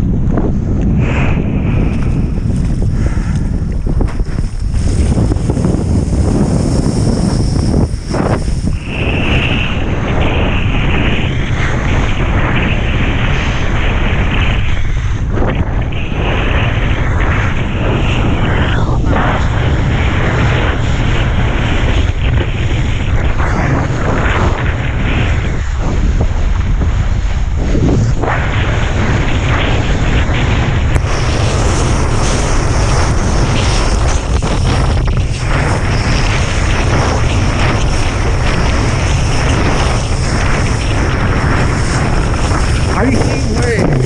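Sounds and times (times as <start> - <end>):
strong wind buffeting microphone: 0.0 - 44.0.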